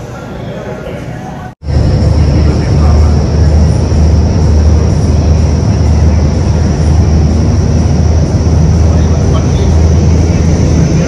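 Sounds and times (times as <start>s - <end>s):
thin high whine: 0.0s - 11.0s
wind tunnel fans roaring: 0.0s - 11.0s.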